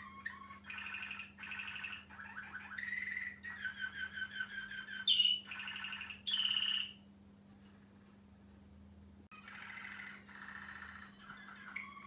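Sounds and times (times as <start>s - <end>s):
canary singing rolling trills: 0.0s - 7.1s, 9.3s - 12.0s
faint steady hum: 0.0s - 12.0s.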